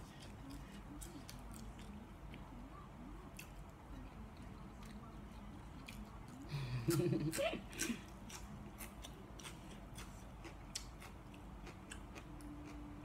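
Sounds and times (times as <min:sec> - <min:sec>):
crunchy chewing of salad greens: 0:00.0 - 0:02.5, 0:03.2 - 0:13.0.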